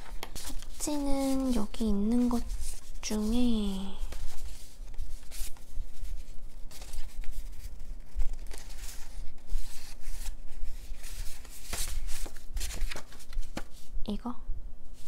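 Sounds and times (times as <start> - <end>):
paper and photos being handled: 0.0 - 14.0.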